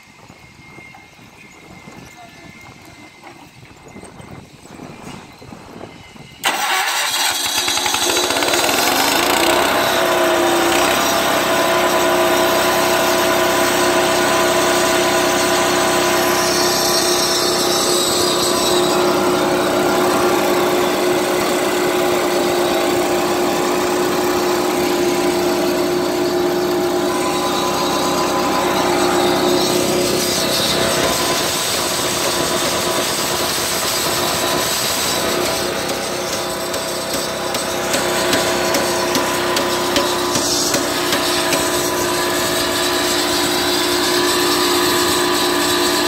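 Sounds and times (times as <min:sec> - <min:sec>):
diesel engine starting and running: 0:05.0 - 0:46.0.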